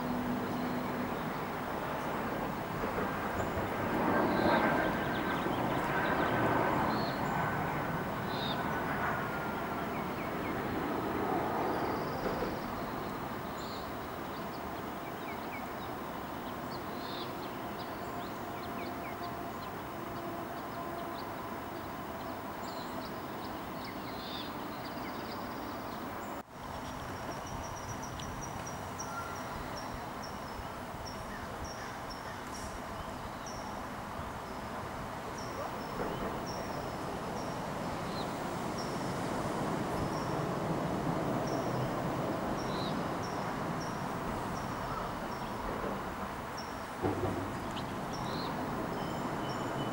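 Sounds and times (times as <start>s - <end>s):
distant traffic noise: 0.0s - 49.9s.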